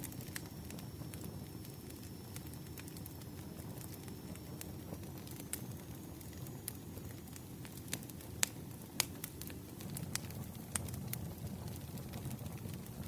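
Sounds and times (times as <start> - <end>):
fire crackles and pops: 0.0 - 13.0
wood fire rumbling: 0.0 - 13.0.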